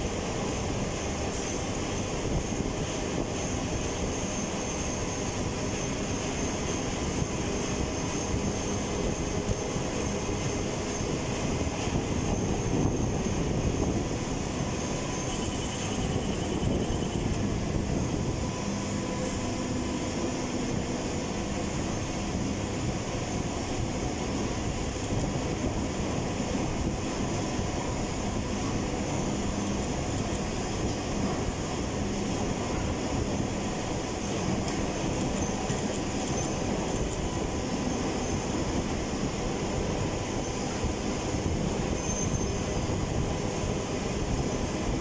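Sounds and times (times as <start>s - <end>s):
high whine: 0.0s - 43.2s
train wheels rumbling on rail: 0.0s - 45.0s.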